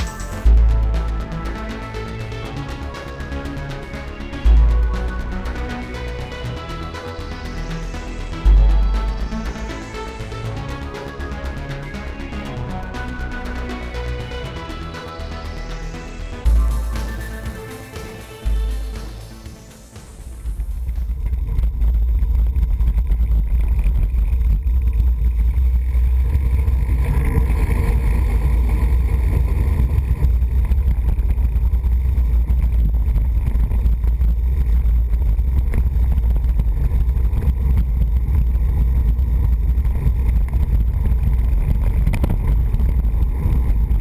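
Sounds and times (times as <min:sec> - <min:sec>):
road noise: 0:00.0 - 0:44.0.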